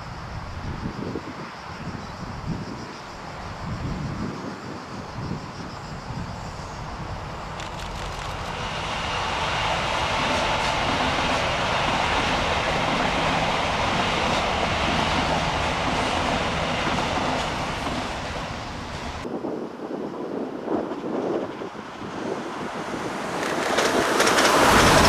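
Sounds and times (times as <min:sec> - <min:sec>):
high-speed train passing: 0:00.0 - 0:25.0.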